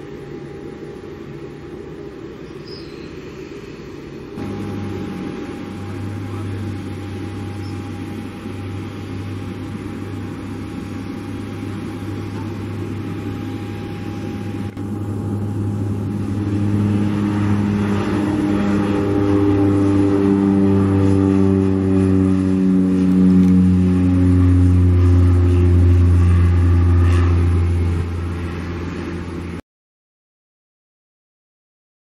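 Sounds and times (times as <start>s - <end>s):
turboprop aircraft engine drone: 0.0s - 29.6s.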